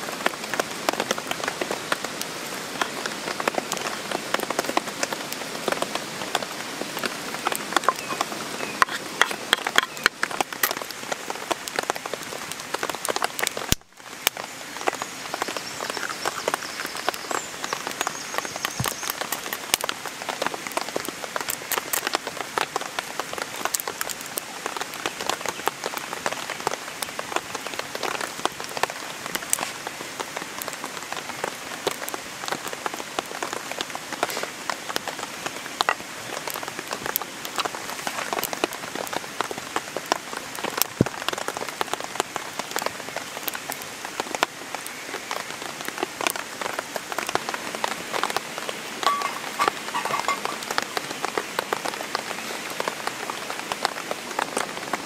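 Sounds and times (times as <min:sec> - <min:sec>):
rain drops tapping: 0:00.0 - 0:55.0.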